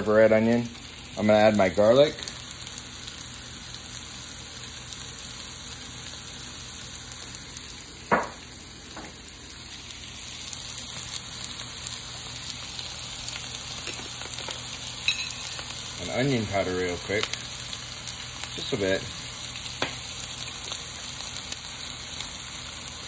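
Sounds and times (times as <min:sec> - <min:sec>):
vegetables sizzling in a frying pan: 0:00.0 - 0:23.0.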